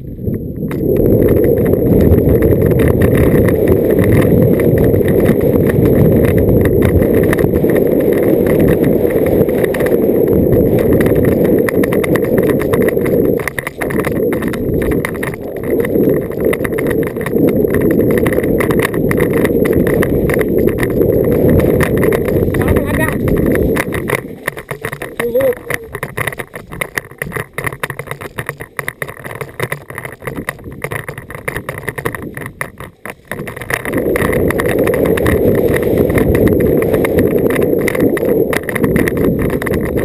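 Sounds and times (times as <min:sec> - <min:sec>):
bike rattling and knocking: 0:00.0 - 0:40.0
wind buffeting microphone: 0:00.0 - 0:40.0.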